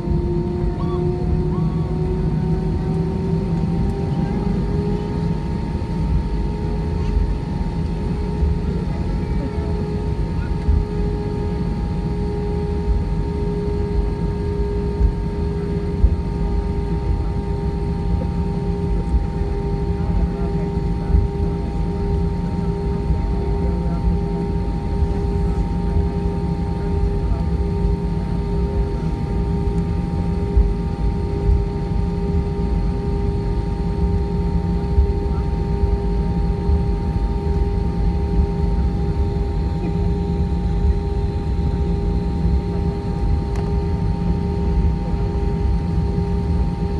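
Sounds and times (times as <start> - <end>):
aircraft cabin rumble: 0.0 - 46.9.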